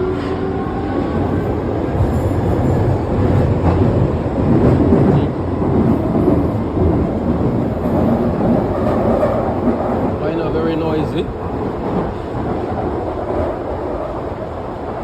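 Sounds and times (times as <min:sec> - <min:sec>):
underground train rumbling: 0:00.0 - 0:15.0.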